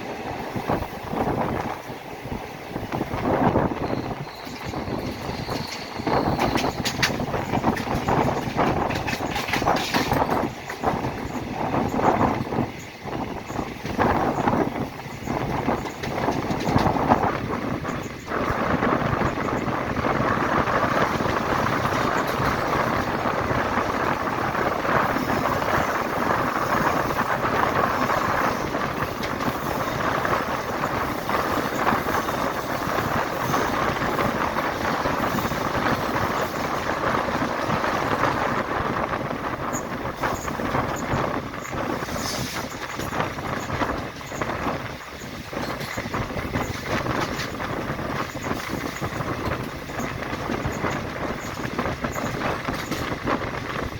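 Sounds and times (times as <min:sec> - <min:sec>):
train wheels rushing on rails: 0:00.0 - 0:53.9.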